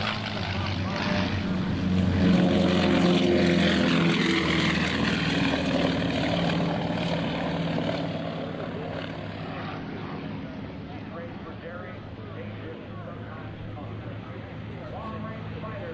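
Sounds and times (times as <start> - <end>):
twin radial engines of aircraft: 0.0 - 15.9.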